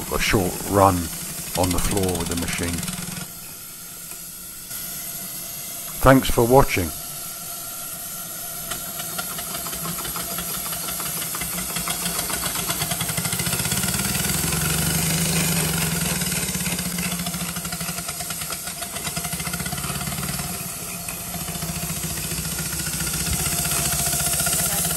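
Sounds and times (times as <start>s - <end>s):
steady steam hiss: 0.0s - 24.9s
steam engine exhaust chuffing: 0.0s - 24.9s.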